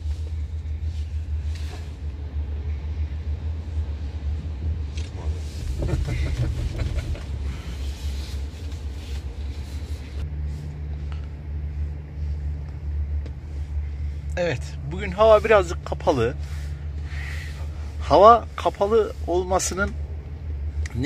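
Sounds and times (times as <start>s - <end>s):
chairlift low rumble: 0.0s - 21.0s.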